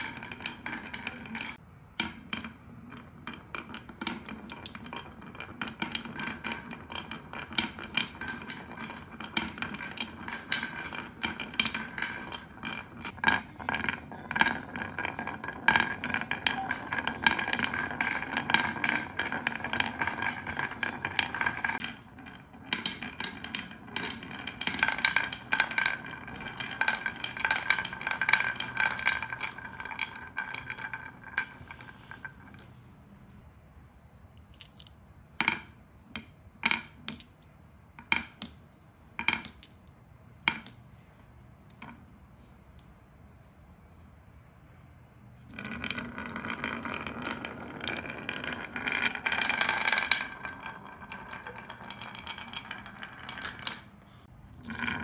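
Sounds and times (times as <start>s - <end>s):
marbles clicking: 0.0s - 33.4s, 34.3s - 41.0s, 41.6s - 43.5s, 45.4s - 55.0s
marbles rolling on wood: 0.0s - 55.0s.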